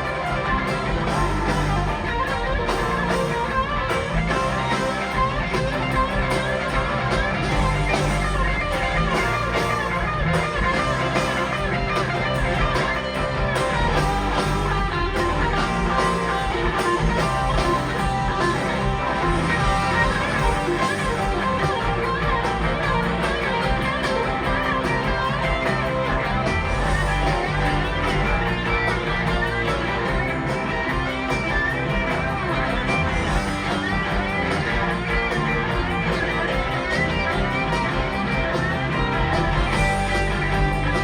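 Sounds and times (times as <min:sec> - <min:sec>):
electric guitar: 0:00.0 - 0:41.0
rock band playing: 0:00.0 - 0:41.0.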